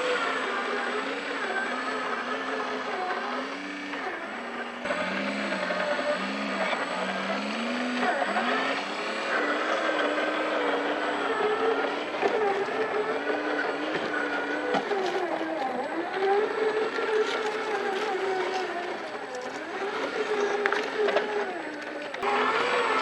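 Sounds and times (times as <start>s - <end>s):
toy truck motor whining: 0.0s - 23.0s.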